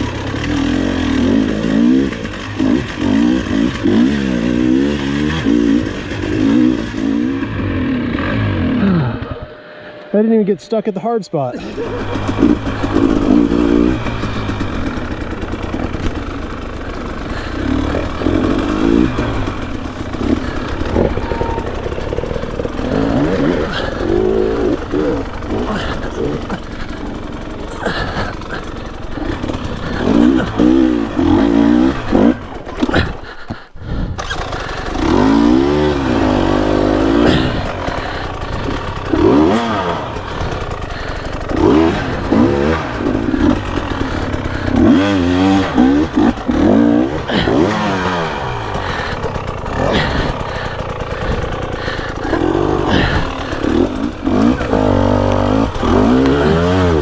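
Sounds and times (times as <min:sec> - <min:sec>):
dirt bike engine revving: 0:00.0 - 0:10.8, 0:11.4 - 0:57.0.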